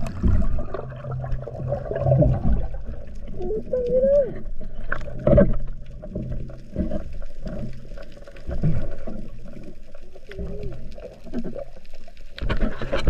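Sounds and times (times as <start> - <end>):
underwater water rushing: 0.0 - 13.0.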